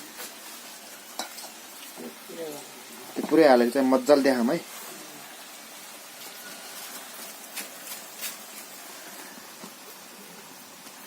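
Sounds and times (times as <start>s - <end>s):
fritters sizzling in hot oil: 0.0s - 11.0s
oil crackles: 0.0s - 11.0s.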